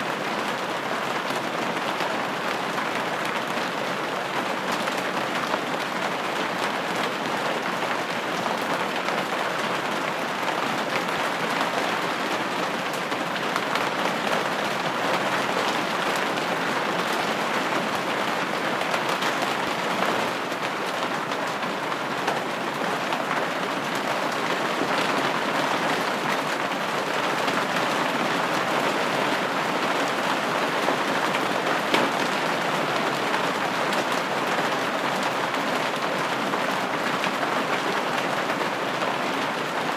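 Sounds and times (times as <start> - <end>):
rain pattering on window: 0.1 - 39.9.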